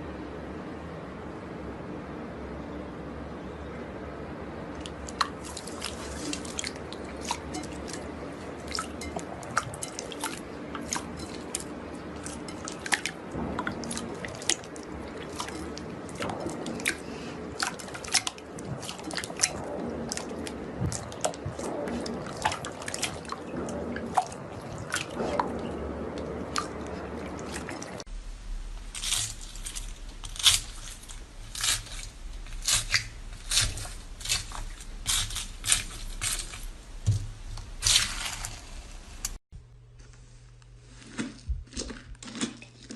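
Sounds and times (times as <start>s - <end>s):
low hum: 0.0s - 40.9s
slime crackling and squishing: 4.8s - 39.3s.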